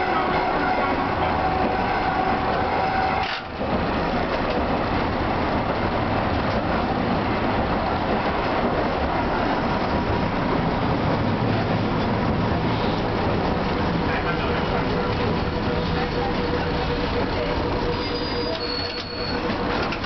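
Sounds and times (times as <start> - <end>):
streetcar wheels rumbling on rail: 0.0 - 20.0.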